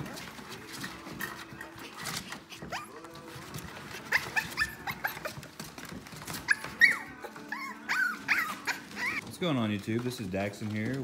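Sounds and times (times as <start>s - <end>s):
puppies whining and yipping: 0.0s - 9.3s.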